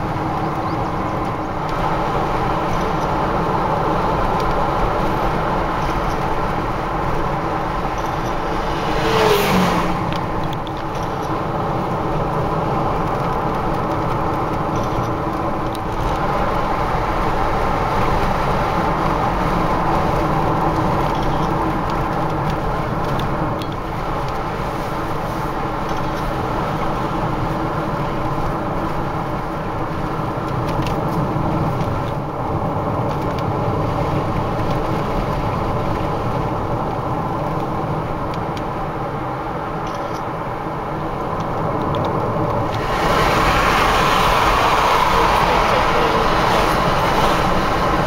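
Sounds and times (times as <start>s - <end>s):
tyres on asphalt: 0.0s - 48.0s.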